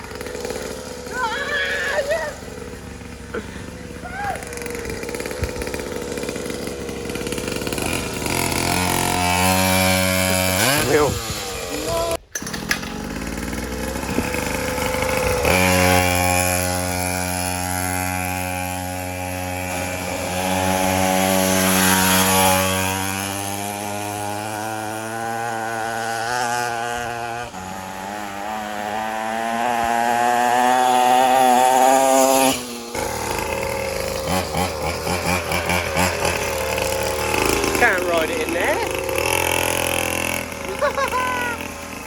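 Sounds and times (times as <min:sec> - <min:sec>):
small motorcycle engine revving: 0:00.0 - 0:42.0.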